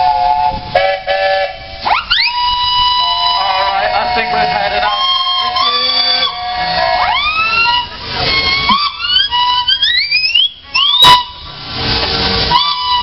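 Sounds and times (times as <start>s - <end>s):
steam whistles blowing: 0.0s - 13.0s.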